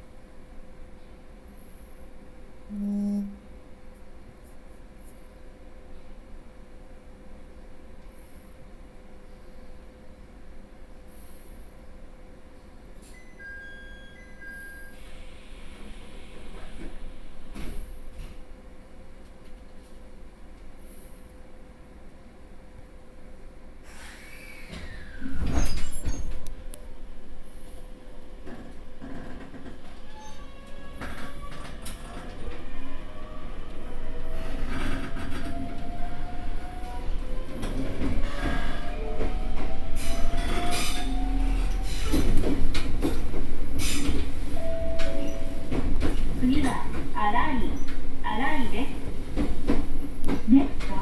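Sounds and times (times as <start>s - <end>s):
train running hum: 0.0s - 13.6s, 14.2s - 51.0s.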